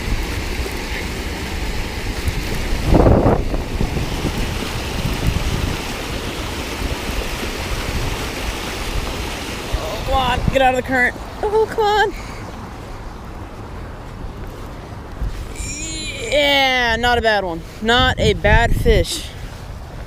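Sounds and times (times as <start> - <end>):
rushing water: 0.0 - 20.0
wind buffeting microphone: 0.0 - 20.0.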